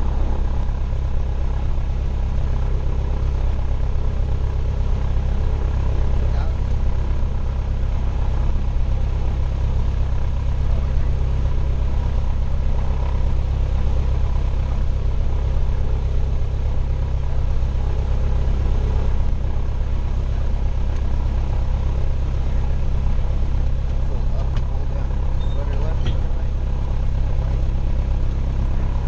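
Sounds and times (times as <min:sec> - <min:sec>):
airplane engine drone in cabin: 0:00.0 - 0:29.0.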